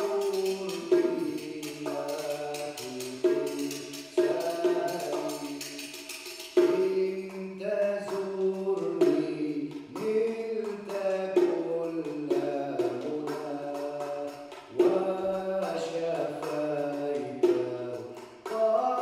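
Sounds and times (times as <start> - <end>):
tambourine jingles: 0.0 - 19.0.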